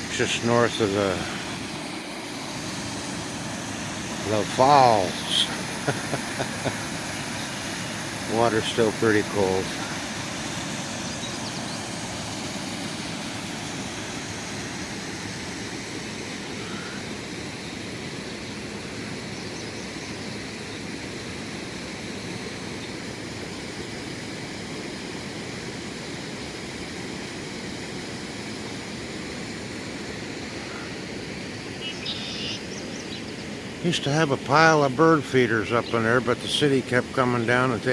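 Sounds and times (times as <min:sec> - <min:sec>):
river water rushing at waterfall: 0:00.0 - 0:37.9.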